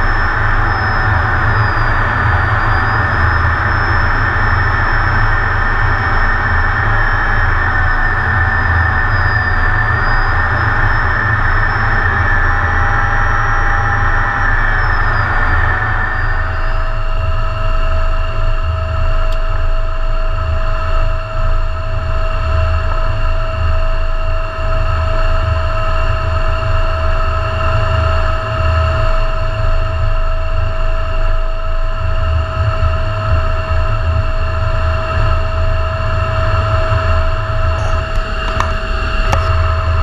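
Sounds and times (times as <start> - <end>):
low engine rumble: 0.0 - 24.2, 28.2 - 40.0
jet whine of held tones: 0.0 - 40.0.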